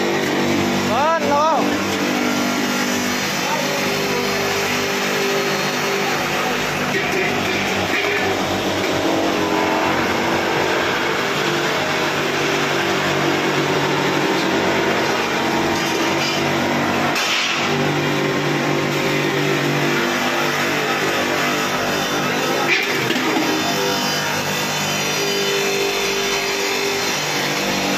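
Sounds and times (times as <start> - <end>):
polishing machine motor hum: 0.0 - 27.9.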